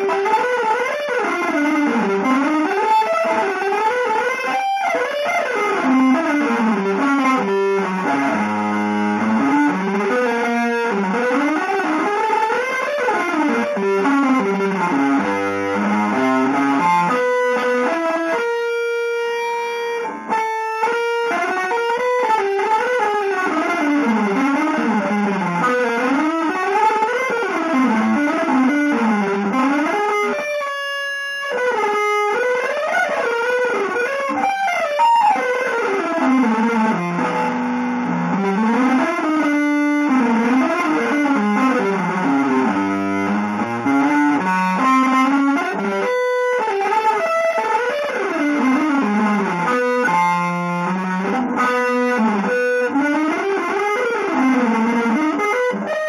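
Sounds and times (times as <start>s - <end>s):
solo electric guitar: 0.0s - 56.0s.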